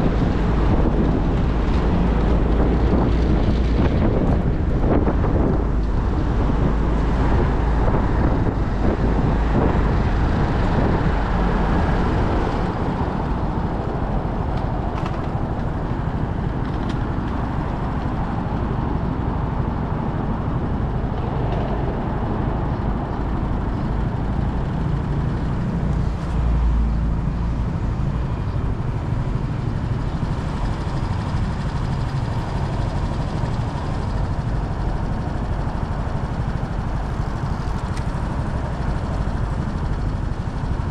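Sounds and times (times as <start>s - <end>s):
road noise: 0.0s - 40.9s
wind buffeting microphone: 0.0s - 40.9s.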